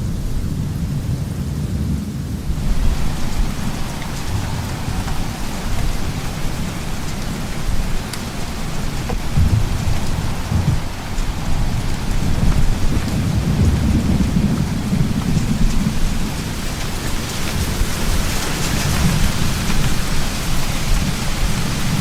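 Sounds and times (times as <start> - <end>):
heavy rain hissing: 0.0 - 22.0
rolling thunder rumble: 0.0 - 22.0.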